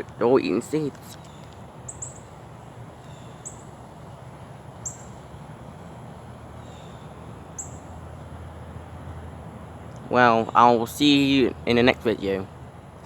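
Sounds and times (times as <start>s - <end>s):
songbird chip notes: 0.0s - 8.6s, 9.9s - 12.5s.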